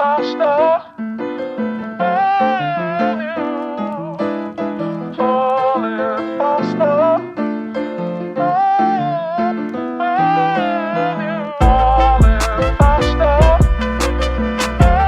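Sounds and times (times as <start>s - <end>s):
keyboard background music: 0.0s - 15.0s.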